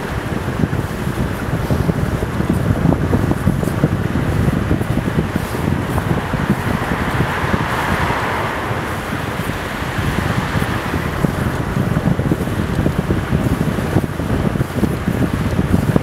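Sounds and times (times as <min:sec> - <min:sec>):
road hiss on wet tarmac: 0:00.0 - 0:16.0
wind buffeting microphone: 0:00.0 - 0:16.0
car passing: 0:01.7 - 0:16.0.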